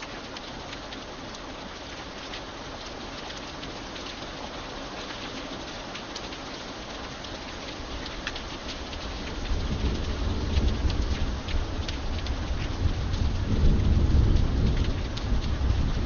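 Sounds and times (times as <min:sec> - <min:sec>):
rain falling on iron bridge: 0:00.0 - 0:16.0.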